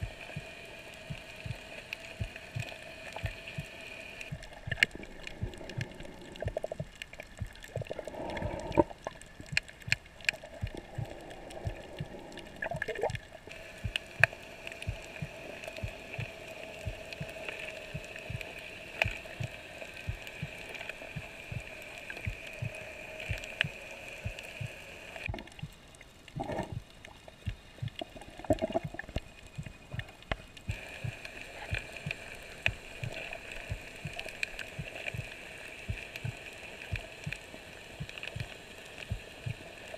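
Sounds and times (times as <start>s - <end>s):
faint steady hum: 0.0s - 39.9s
reef clicks and crackles: 0.0s - 39.9s.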